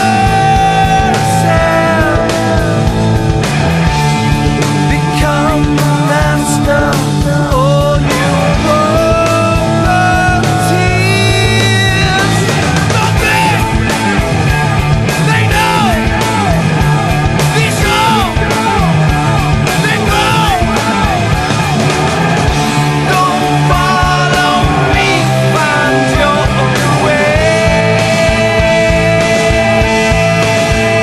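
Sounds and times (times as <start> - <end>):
rock band playing: 0.0 - 31.0.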